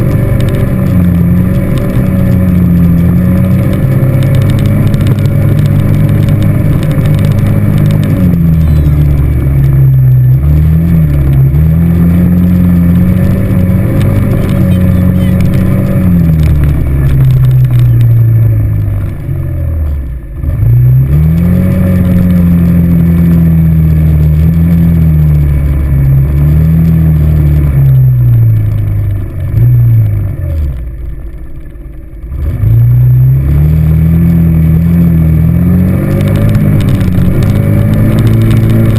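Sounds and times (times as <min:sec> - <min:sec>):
quad bike engine revving: 0:00.0 - 0:30.9, 0:32.2 - 0:38.9.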